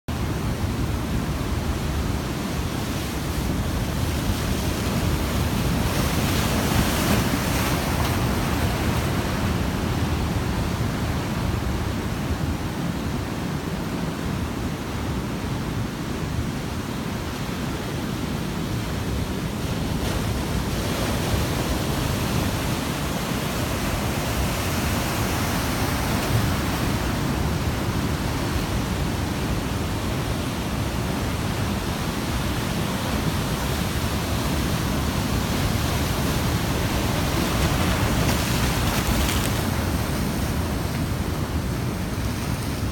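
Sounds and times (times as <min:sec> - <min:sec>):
wind rumbling on microphone: 0:00.1 - 0:42.9
heavy surf breaking on beach: 0:00.2 - 0:42.9.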